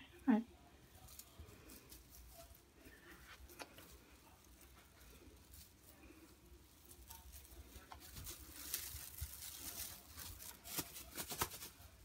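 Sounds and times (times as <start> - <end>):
tinsel streamers rustling: 0.6 - 12.0.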